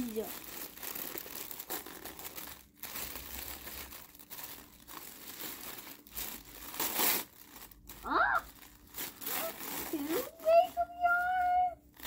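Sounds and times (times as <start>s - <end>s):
package wrapping crinkling: 0.0s - 12.0s.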